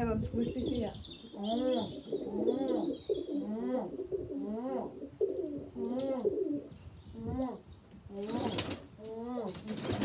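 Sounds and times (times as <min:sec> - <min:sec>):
pigeons cooing: 0:00.6 - 0:10.0.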